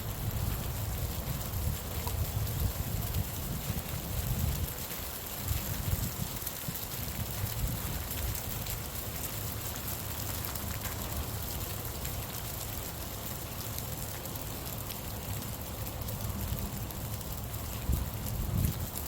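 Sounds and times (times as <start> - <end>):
wind rumble on microphone: 0.0 - 13.6, 14.7 - 19.0
rain falling: 0.0 - 19.0.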